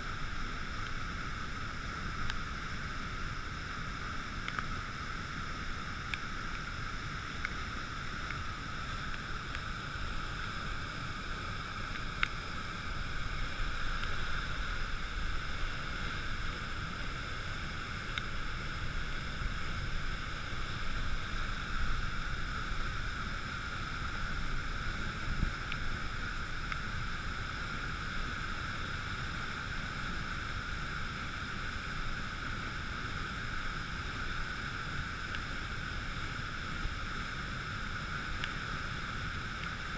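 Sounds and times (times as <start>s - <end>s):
water rushing over weir: 0.0s - 39.9s.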